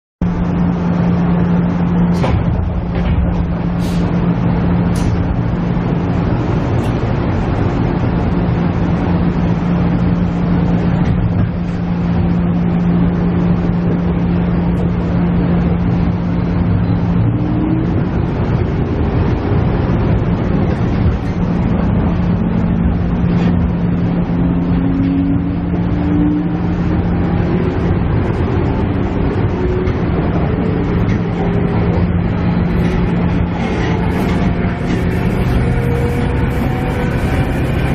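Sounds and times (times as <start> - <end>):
diesel railcar engine humming: 0.2 - 37.9.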